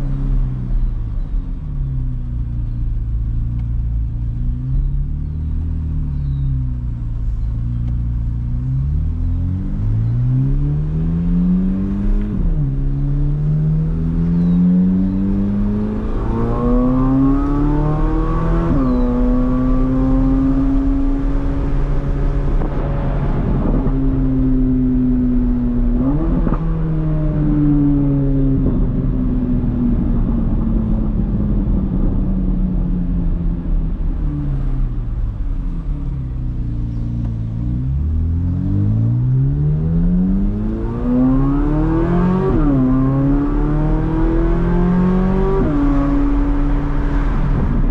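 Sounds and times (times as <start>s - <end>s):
car engine accelerating with upshifts: 0.0s - 47.9s.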